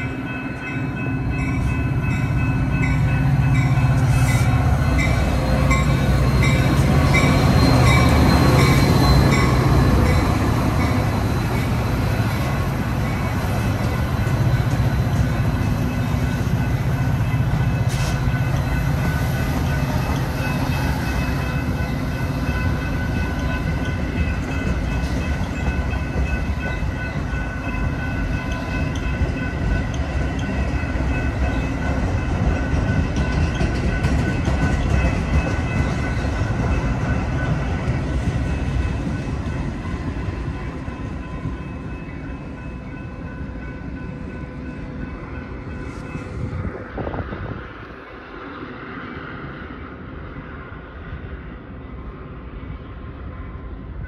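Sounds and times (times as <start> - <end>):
crossing warning bell dinging: 0.0 - 46.8
train wheels clacking on rails: 0.0 - 47.1
diesel locomotive engine drone: 0.0 - 54.0.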